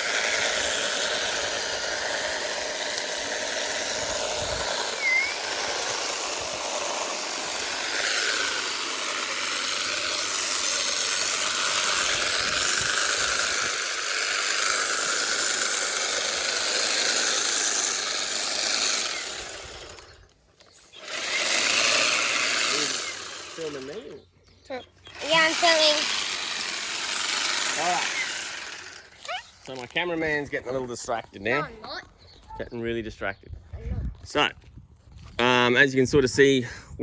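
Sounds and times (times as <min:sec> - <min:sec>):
hedge trimmer cutting: 0:00.0 - 0:24.2, 0:25.0 - 0:30.6.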